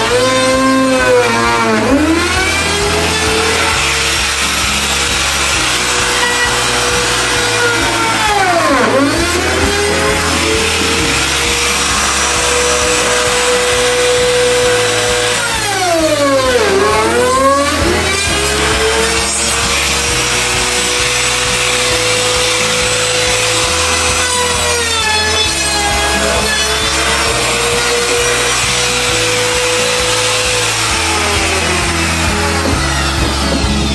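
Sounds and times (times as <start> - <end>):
router cutting wood: 0.0 - 33.9.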